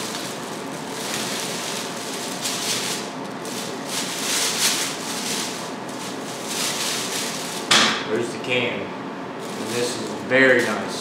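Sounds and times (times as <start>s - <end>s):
packing paper crinkling: 0.0s - 7.8s, 9.4s - 11.0s
plastic bag rustling: 0.0s - 8.0s, 9.4s - 11.0s.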